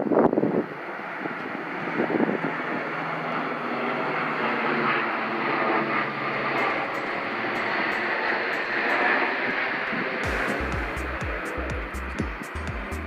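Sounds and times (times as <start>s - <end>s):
airplane engines droning: 0.0s - 13.0s
wind buffeting microphone: 0.0s - 13.0s.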